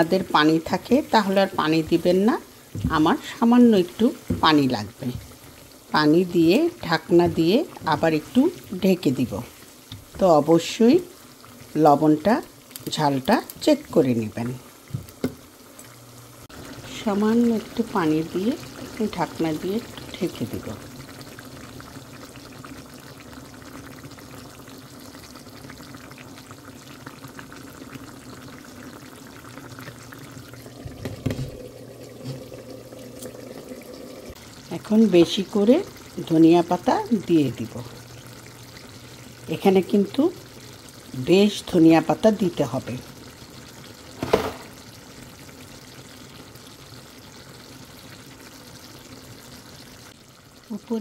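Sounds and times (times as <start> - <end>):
curry simmering and sizzling: 0.0 - 51.0.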